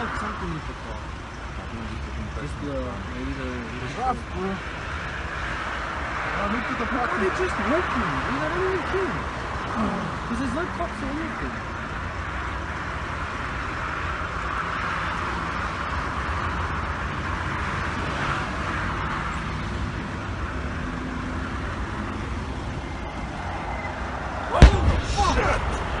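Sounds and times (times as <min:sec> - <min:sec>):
highway traffic noise: 0:00.0 - 0:26.0.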